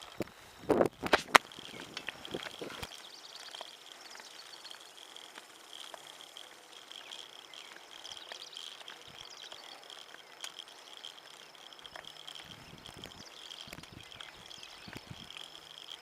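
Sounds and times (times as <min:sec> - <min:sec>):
faint ticks: 0:00.0 - 0:16.0
insects trilling: 0:00.0 - 0:16.0.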